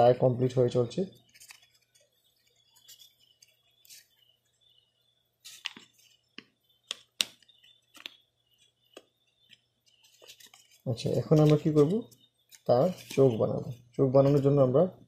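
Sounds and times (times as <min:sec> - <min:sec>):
paper rustling: 0:01.2 - 0:04.3, 0:05.4 - 0:14.6.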